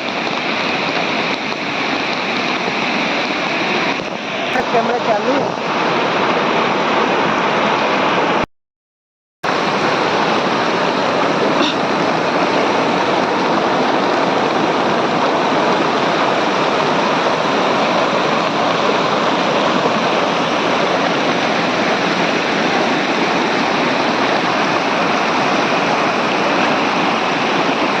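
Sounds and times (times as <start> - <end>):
waterfall roaring: 0.0 - 8.4, 9.4 - 28.0.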